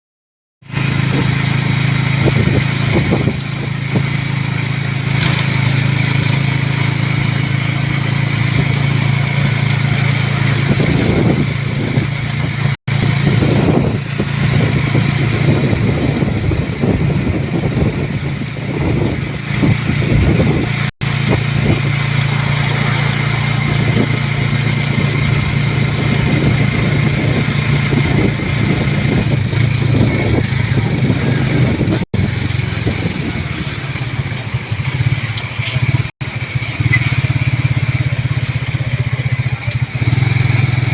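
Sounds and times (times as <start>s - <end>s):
vehicle engine running: 0.6s - 40.9s
wind buffeting microphone: 0.8s - 5.2s, 5.8s - 36.6s.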